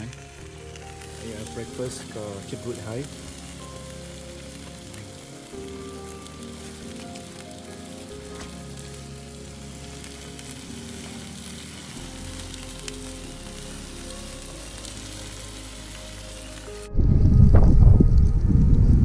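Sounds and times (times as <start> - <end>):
food sizzling in a frying pan: 0.0 - 16.9.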